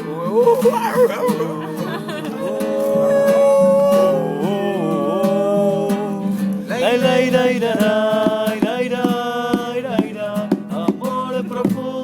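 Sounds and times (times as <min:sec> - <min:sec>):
song with guitar accompaniment: 0:00.0 - 0:12.0.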